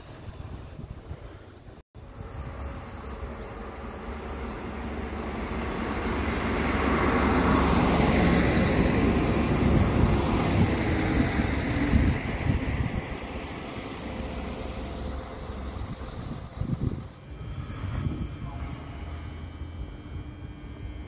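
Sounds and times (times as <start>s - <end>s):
diesel railcar passing: 0.0s - 21.0s.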